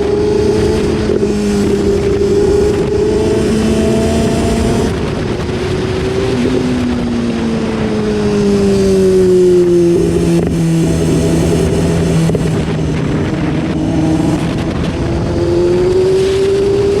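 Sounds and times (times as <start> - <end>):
motorcycle engine under way: 0.0 - 17.0
wind noise: 0.0 - 17.0.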